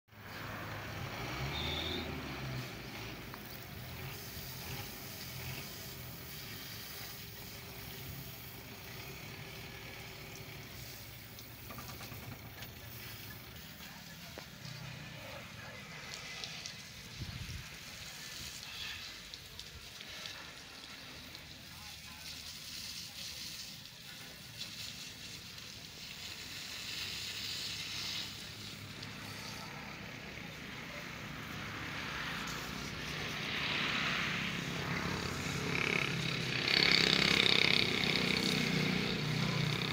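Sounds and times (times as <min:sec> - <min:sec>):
water spraying from a hose: 0:00.1 - 0:39.9.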